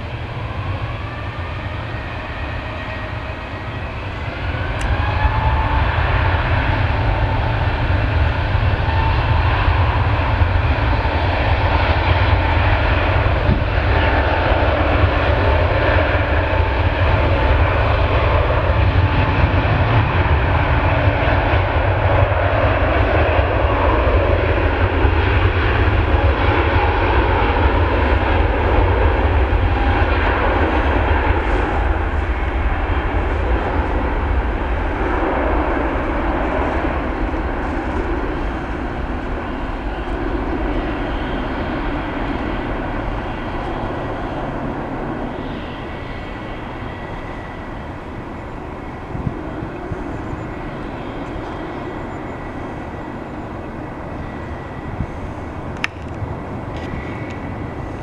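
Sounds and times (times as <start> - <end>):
jet engines roaring with whine: 0.0 - 58.0.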